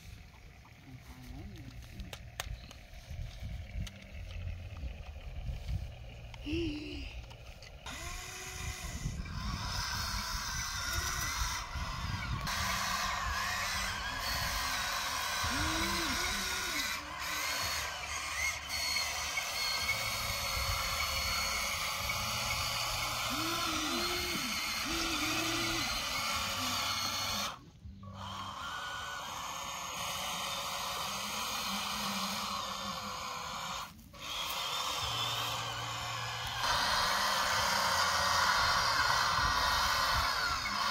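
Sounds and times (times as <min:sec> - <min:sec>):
electric motors whirring: 0:00.0 - 0:40.9.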